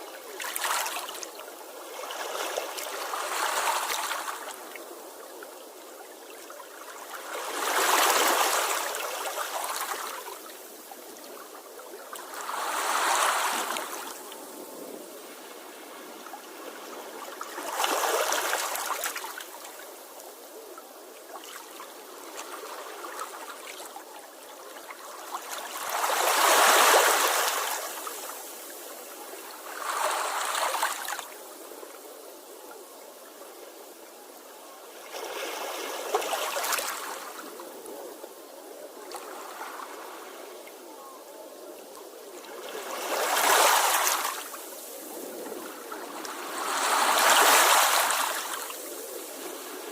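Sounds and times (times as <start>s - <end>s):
sea waves washing onto shore: 0.0s - 49.9s
steady hiss of water: 0.0s - 49.9s.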